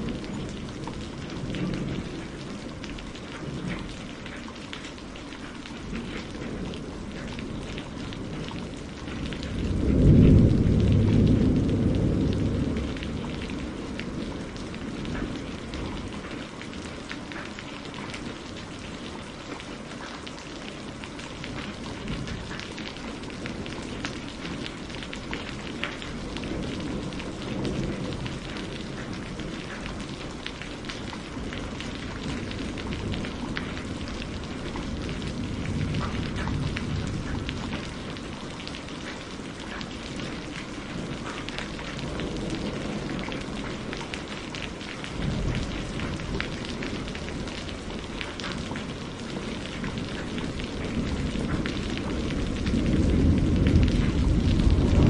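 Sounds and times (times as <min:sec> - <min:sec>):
low rumble of thunder: 0:00.0 - 0:55.0
steady rain: 0:00.0 - 0:55.0.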